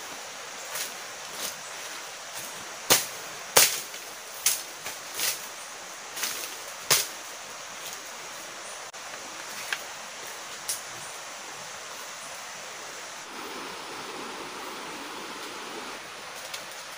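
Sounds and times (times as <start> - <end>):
steady forest hiss: 0.0 - 16.9.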